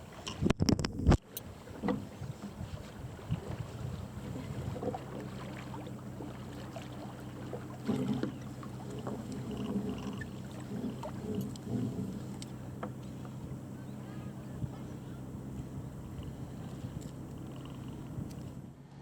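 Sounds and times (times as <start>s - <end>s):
water washing along hull: 0.0s - 18.6s
low hum: 0.0s - 19.0s.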